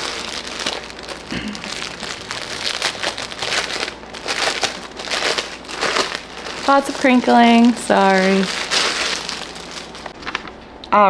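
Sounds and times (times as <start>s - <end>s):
packaging crinkling: 0.0s - 10.6s.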